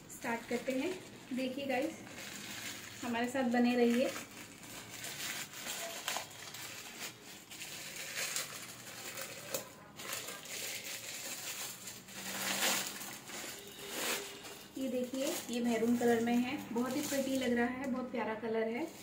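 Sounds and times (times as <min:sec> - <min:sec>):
plastic bag crinkling and tearing: 0:00.2 - 0:17.7.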